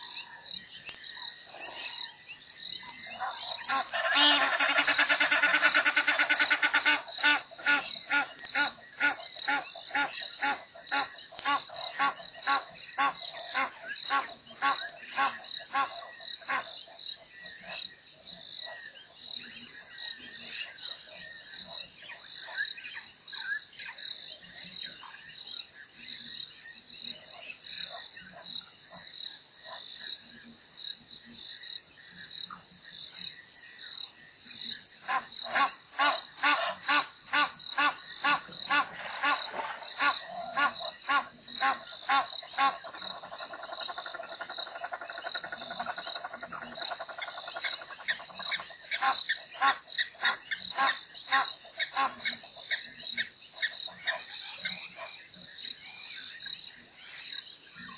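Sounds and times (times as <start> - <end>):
crickets chirping: 0.0 - 57.9
frogs calling: 0.0 - 57.9.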